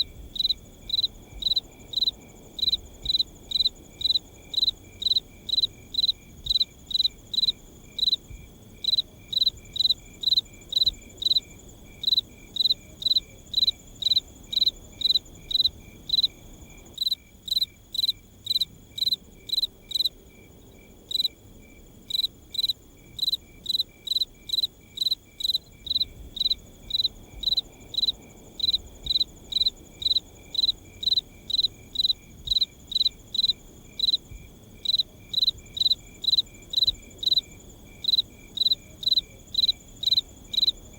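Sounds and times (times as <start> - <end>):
cricket chirping: 0.0 - 40.9
faint night ambience hiss: 0.0 - 40.9.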